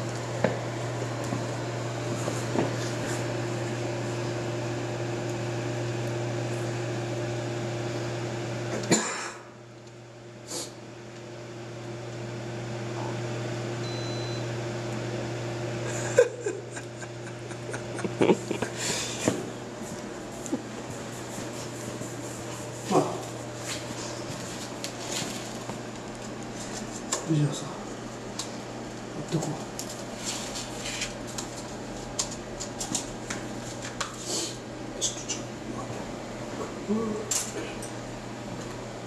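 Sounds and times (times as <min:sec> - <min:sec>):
pancake machine humming: 0:00.0 - 0:39.0.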